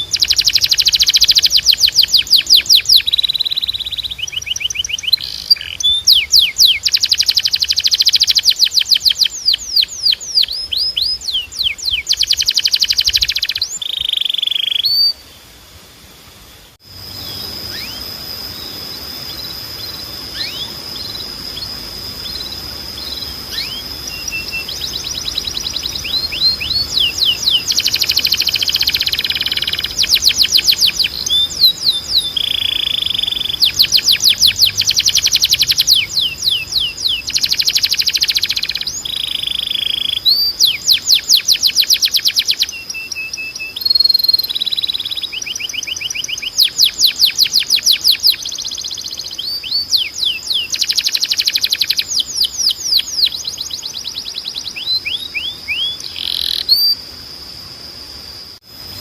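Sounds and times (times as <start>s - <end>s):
canary singing trills: 0.0s - 15.4s, 16.9s - 57.2s.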